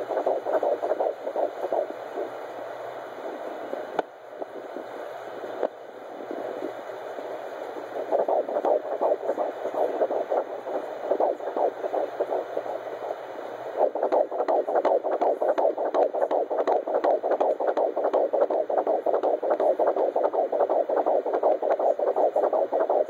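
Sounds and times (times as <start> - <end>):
heartbeat whooshing pulses: 0.0 - 2.3, 6.2 - 23.0.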